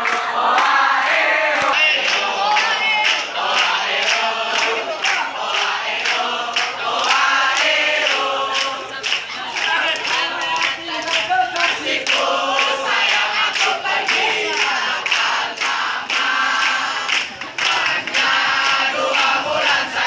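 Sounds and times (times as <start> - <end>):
group singing in unison: 0.0 - 20.0.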